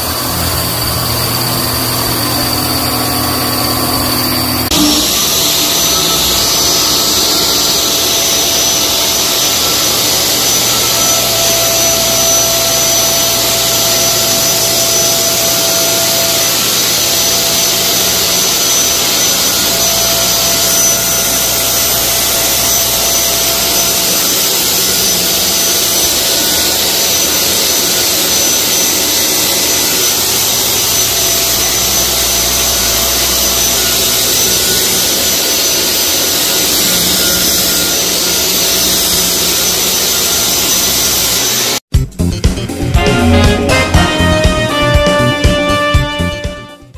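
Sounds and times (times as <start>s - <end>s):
fogging machine spraying mist: 0.0s - 41.8s.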